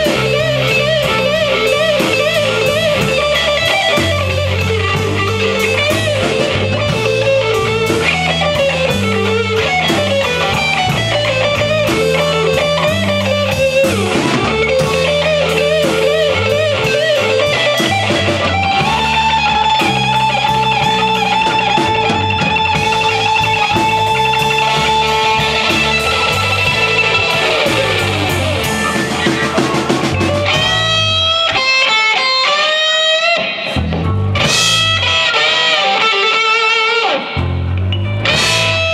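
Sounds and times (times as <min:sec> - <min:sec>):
bass guitar: 0:00.0 - 0:38.9
blues harmonica: 0:00.0 - 0:38.9
drums: 0:00.0 - 0:38.9
electric guitar: 0:00.0 - 0:38.9.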